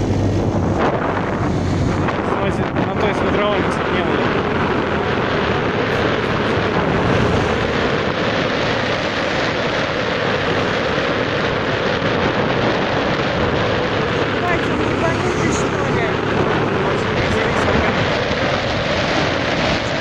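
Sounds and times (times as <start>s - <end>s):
motorbike engine and tyres: 0.0s - 20.0s
wind rushing over microphone: 0.0s - 20.0s.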